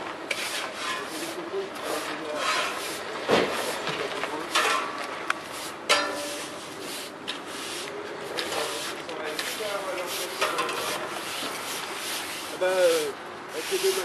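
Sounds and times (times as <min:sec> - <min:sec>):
brooms sweeping asphalt: 0:00.0 - 0:14.0.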